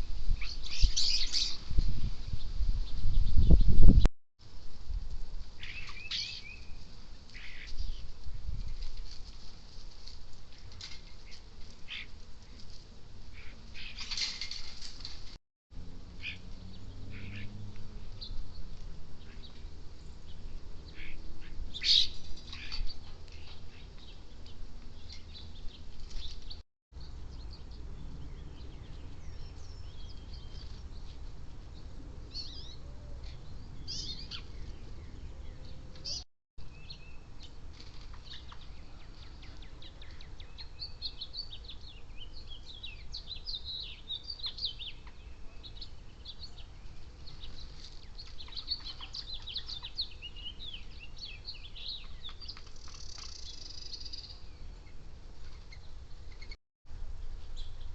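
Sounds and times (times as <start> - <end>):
wild birds chirping: 0.4 - 1.7, 5.6 - 8.2, 10.7 - 15.2, 16.0 - 56.6.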